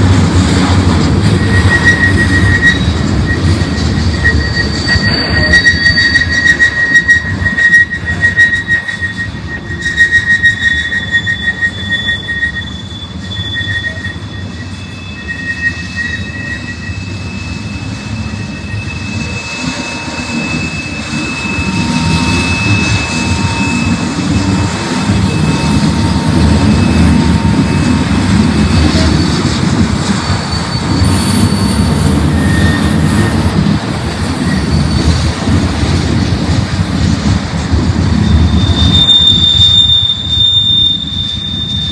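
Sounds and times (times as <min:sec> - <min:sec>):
freight train rumble: 0:00.0 - 0:41.9
train wheels squealing: 0:00.0 - 0:41.9.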